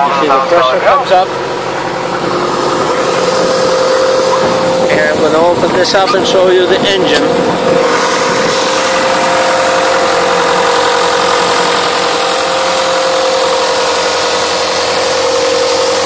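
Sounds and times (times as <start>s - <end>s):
diesel engine running: 0.0s - 16.0s
steady whine: 0.0s - 16.0s.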